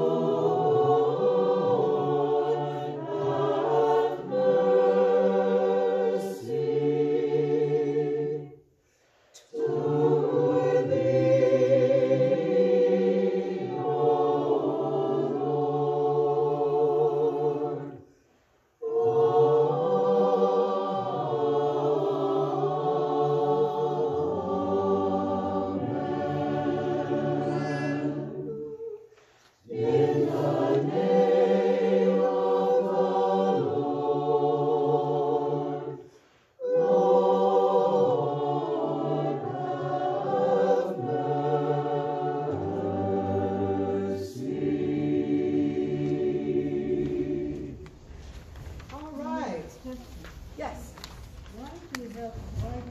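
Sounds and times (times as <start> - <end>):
choir singing a hymn: 0.0 - 48.8.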